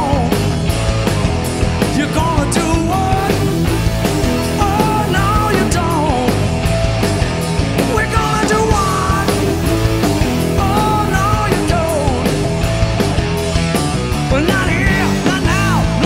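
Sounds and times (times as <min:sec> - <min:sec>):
bass guitar: 0:00.0 - 0:16.0
drums: 0:00.0 - 0:16.0
lead line with pitch bends: 0:00.3 - 0:16.0.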